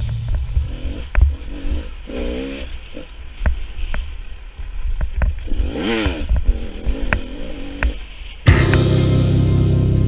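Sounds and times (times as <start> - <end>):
dirt bike engine revving: 0.0 - 3.9, 5.4 - 10.0.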